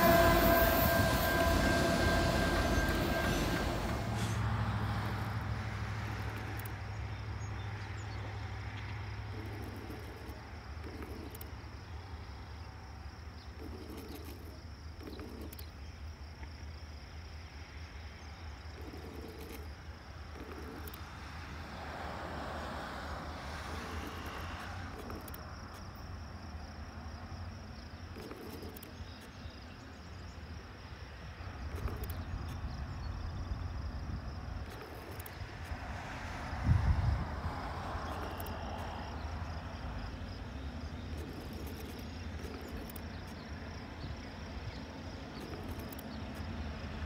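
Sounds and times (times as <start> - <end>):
insects trilling: 0.0 - 47.0.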